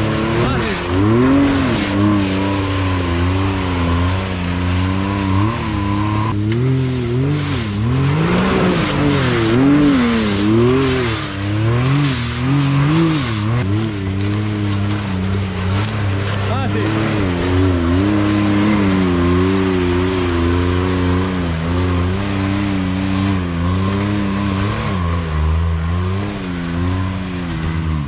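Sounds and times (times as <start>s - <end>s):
high whine: 0.0s - 25.7s
off-road vehicle engines revving: 0.0s - 28.0s.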